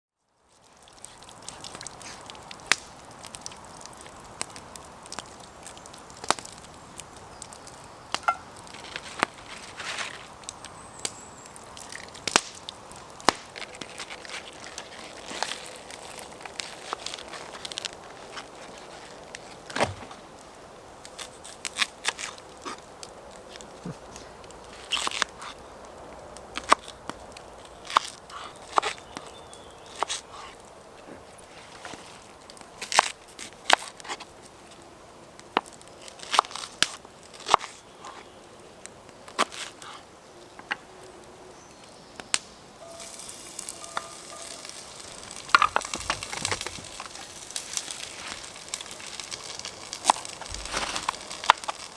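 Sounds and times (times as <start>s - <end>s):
wood campfire crackling: 0.3s - 51.9s.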